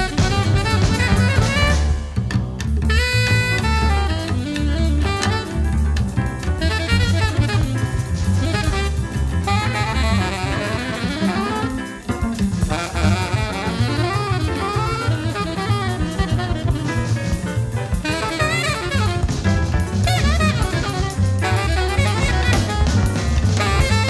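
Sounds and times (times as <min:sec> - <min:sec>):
alto saxophone playing fast lines: 0:00.0 - 0:24.0
bass line: 0:00.0 - 0:24.0
busy drum kit: 0:00.0 - 0:24.0.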